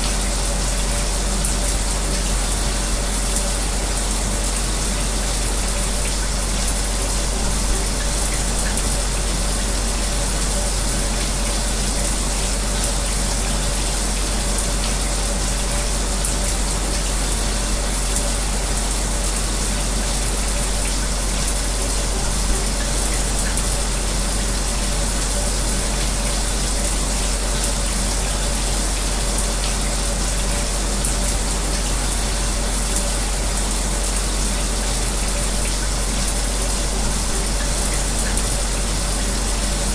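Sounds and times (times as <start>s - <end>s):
electric fan hum: 0.0s - 39.9s
shower running: 0.0s - 39.9s.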